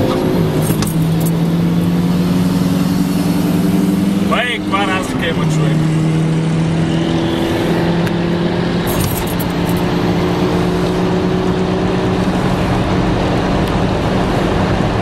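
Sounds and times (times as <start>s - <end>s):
car engine pulling hard: 0.0s - 15.0s
road noise: 0.0s - 15.0s.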